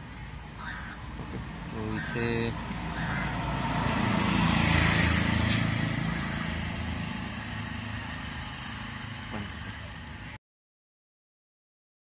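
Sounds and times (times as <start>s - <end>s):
vehicle passing on road: 0.0s - 10.4s.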